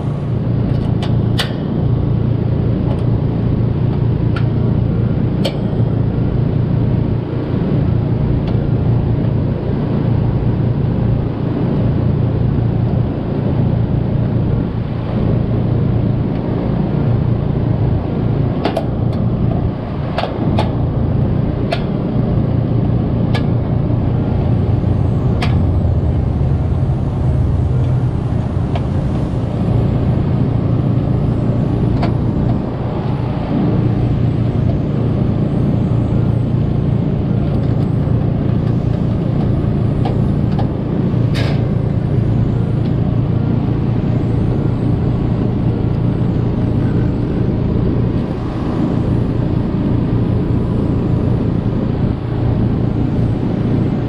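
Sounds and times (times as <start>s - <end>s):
loud steady low hum: 0.0s - 54.0s.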